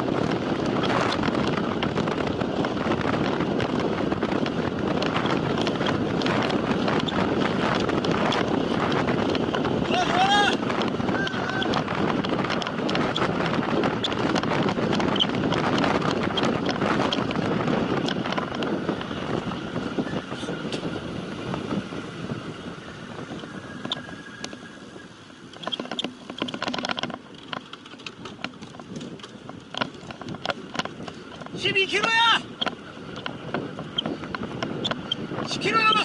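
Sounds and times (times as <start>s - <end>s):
bicycle road noise: 0.0s - 36.0s
wind rushing over microphone: 0.0s - 36.0s.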